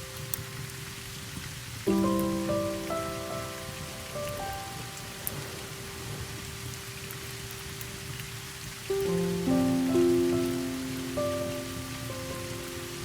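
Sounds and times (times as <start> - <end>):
fire crackling and popping: 0.0 - 13.0
soft sustained music chords: 0.0 - 13.0.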